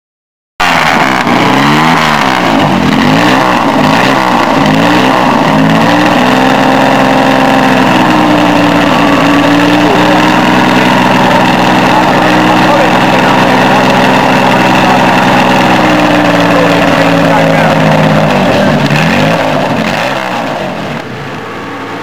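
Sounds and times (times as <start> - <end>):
car engine revving: 0.6 - 22.0.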